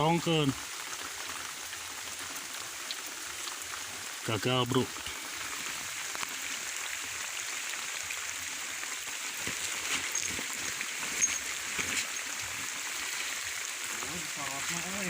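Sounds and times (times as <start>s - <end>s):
rain and running water: 0.0s - 15.0s
water splashes and drips: 0.0s - 15.0s.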